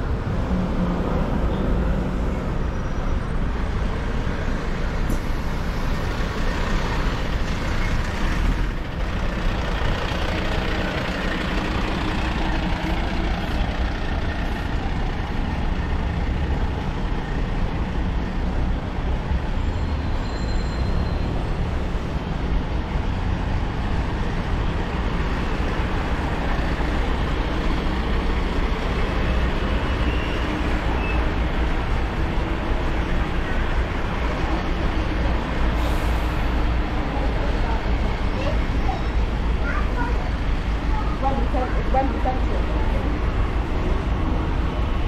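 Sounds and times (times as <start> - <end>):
heavy vehicle engine rumble: 0.0 - 45.0
street traffic noise: 0.0 - 45.0.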